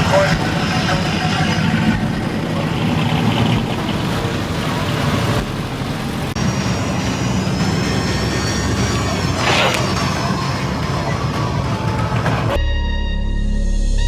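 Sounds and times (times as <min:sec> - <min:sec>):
vehicle engines and traffic: 0:00.0 - 0:12.6.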